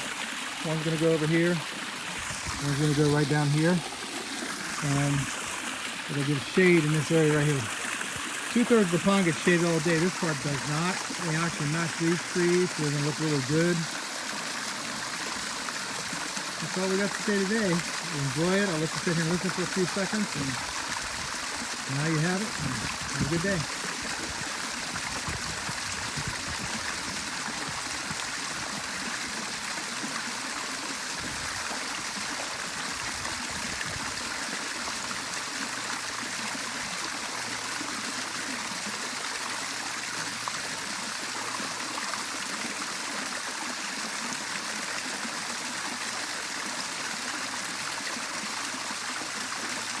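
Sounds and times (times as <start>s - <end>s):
water trickling over rocks: 0.0s - 50.0s.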